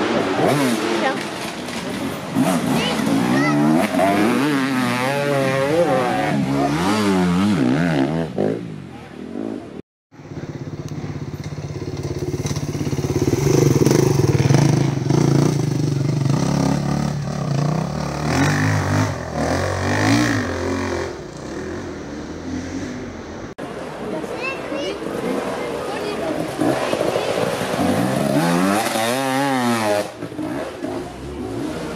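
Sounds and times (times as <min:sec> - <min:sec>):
motorcycle engines revving past: 0:00.0 - 0:31.9.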